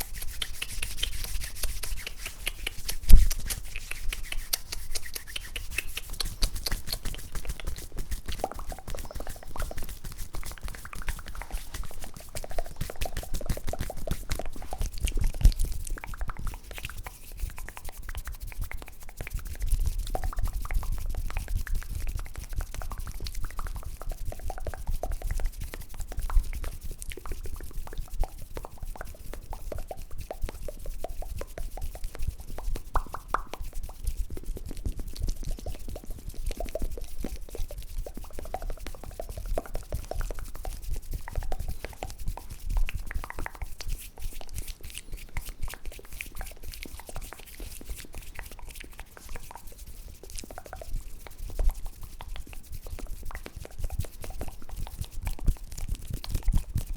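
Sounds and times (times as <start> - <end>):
wet mouth clicks and pops: 0.0 - 56.9.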